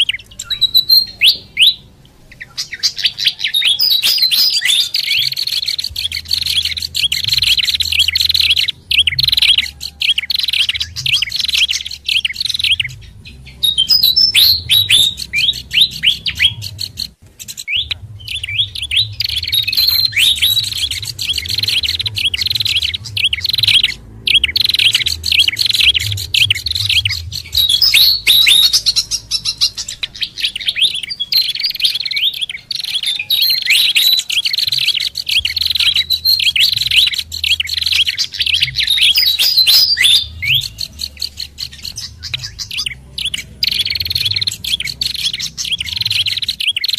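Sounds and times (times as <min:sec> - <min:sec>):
songbirds chirping: 0:00.0 - 0:46.9
low hum: 0:05.0 - 0:32.5, 0:34.3 - 0:46.6.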